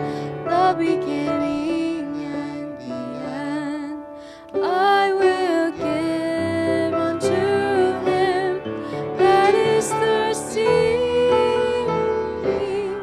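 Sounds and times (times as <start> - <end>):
instrumental accompaniment: 0.0 - 13.0
woman singing slow worship song: 0.0 - 13.0.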